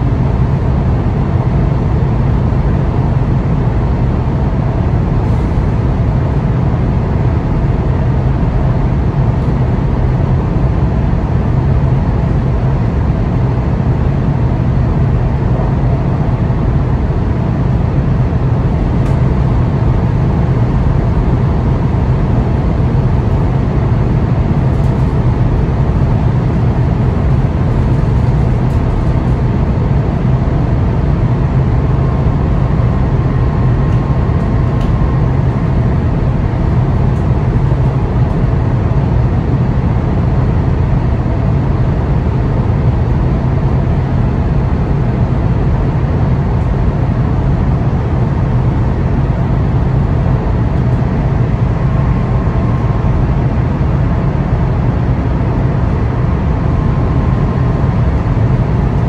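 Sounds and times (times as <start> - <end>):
faint train whine: 0.0 - 59.0
train rumble heard on board: 0.0 - 59.0.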